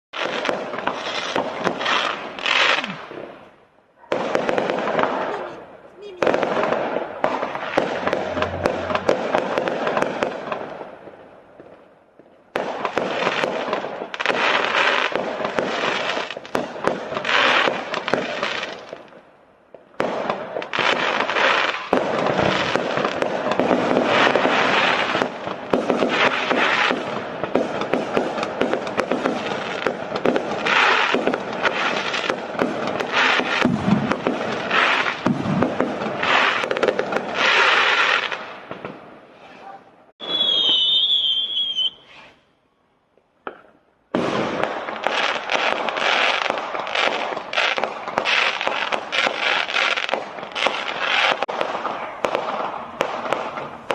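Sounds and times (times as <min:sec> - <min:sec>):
fireworks crackling and banging: 0:00.1 - 0:42.4, 0:43.1 - 0:53.9.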